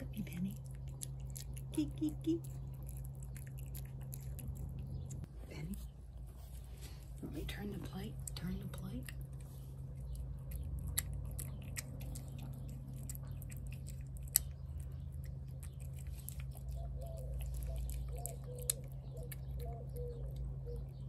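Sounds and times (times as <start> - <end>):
low steady hum: 0.0 - 21.0
cat chewing meat: 0.1 - 5.4, 6.1 - 21.0.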